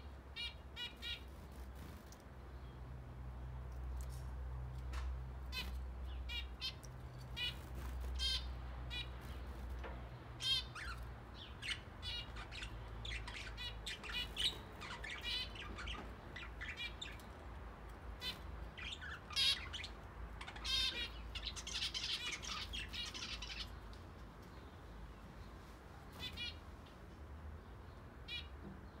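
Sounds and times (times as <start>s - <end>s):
flock of birds chirping: 0.0s - 2.9s, 4.9s - 26.9s.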